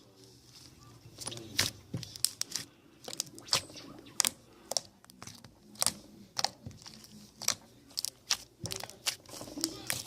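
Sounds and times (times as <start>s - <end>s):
slime squishing with wet pops: 1.2s - 10.0s.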